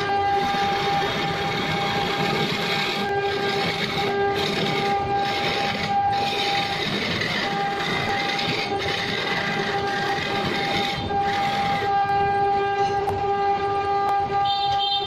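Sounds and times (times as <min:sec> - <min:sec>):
wood lathe cutting noise: 0:00.0 - 0:12.1.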